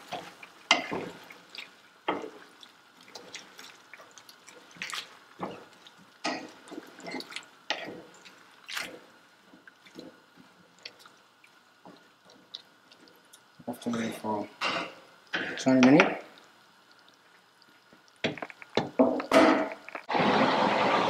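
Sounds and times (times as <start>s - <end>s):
food being stirred: 0.0s - 20.1s.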